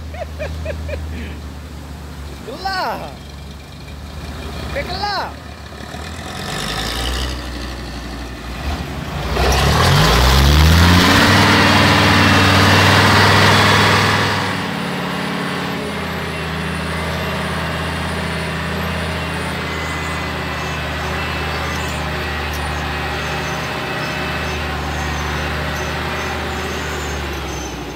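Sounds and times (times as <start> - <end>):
truck engine running: 0.0 - 27.9.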